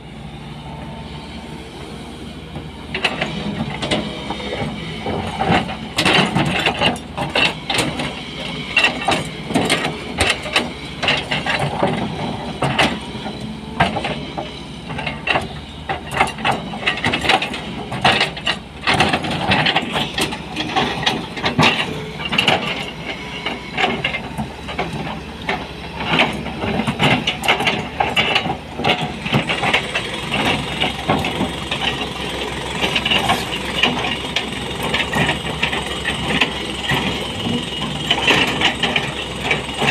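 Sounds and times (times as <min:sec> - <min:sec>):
excavator diesel engine under load: 0:00.0 - 0:39.9.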